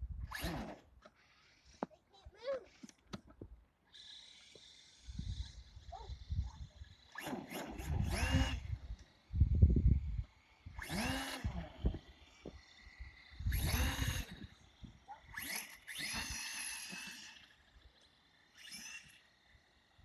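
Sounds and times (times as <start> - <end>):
toy truck electric motor whining: 0.2 - 3.1, 3.9 - 20.0.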